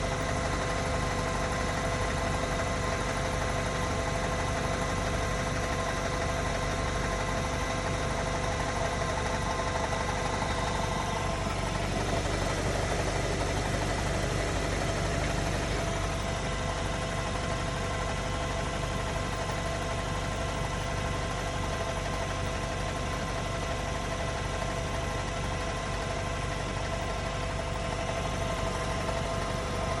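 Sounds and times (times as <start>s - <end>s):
car engine idling with knock: 0.0s - 30.0s.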